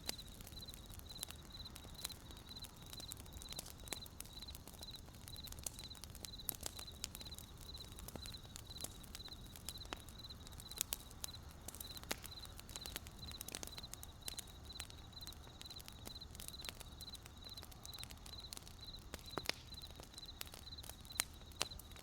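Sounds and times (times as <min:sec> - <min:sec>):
campfire crackling: 0:00.0 - 0:22.0
cricket chirping: 0:00.1 - 0:21.9.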